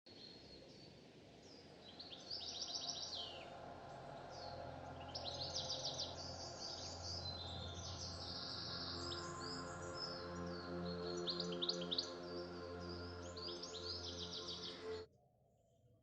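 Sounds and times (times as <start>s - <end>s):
songbird trilling chirps: 0.1s - 15.1s.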